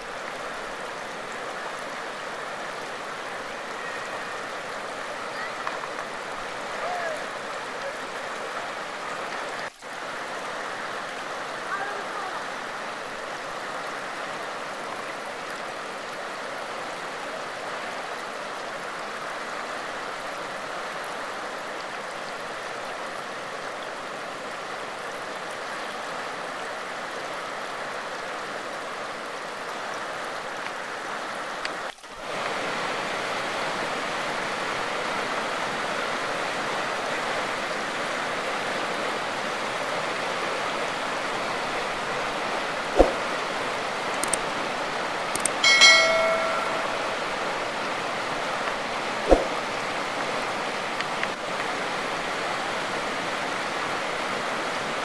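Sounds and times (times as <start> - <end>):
water rushing over rapids: 0.0 - 55.0.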